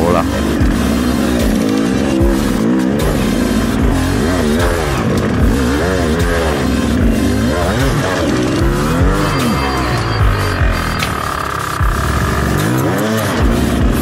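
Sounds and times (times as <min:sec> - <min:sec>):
two-stroke dirt bike engine revving: 0:00.0 - 0:14.0.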